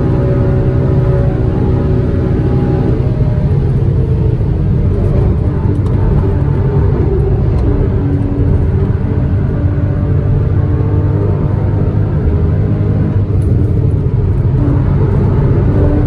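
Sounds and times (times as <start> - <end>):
car engine droning at speed: 0.0 - 16.0.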